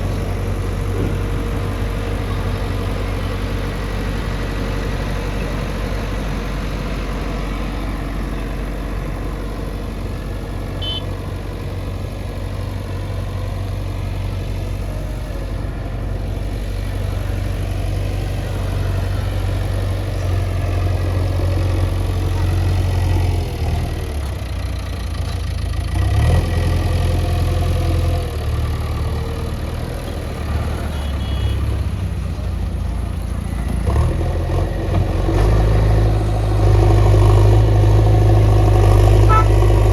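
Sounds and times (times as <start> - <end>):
heavy diesel engine idling: 0.0 - 39.9.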